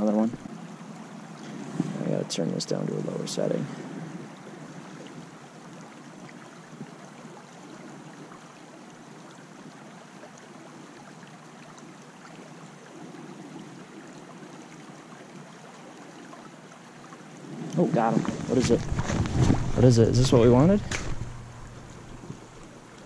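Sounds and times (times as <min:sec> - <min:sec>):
creek flowing over rocks: 0:00.0 - 0:23.0.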